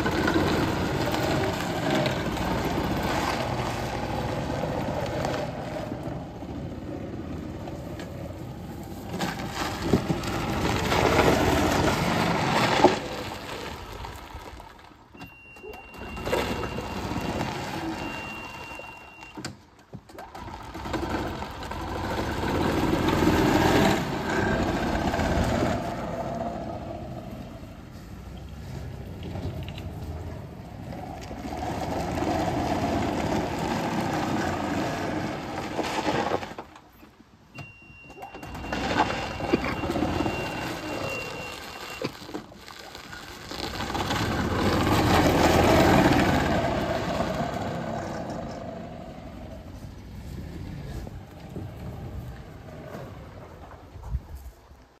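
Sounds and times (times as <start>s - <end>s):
golf cart running: 0.0s - 54.2s.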